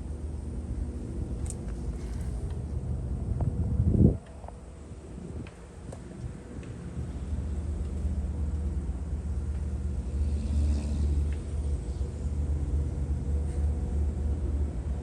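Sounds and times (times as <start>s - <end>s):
diesel locomotive engines rumbling: 0.0s - 15.0s.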